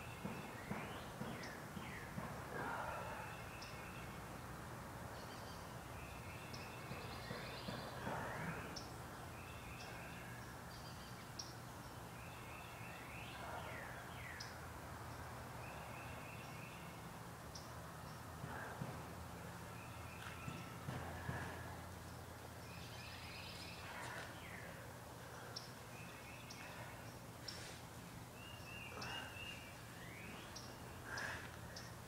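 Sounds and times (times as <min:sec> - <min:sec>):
small birds chirping: 0:05.1 - 0:32.0.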